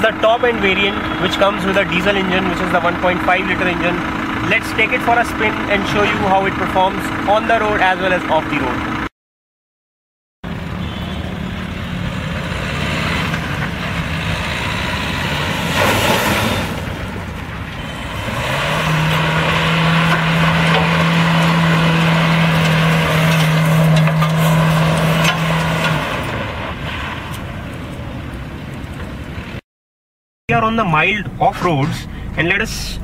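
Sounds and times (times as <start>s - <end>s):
diesel engine running: 0.0s - 9.1s, 10.4s - 29.6s, 30.5s - 33.0s.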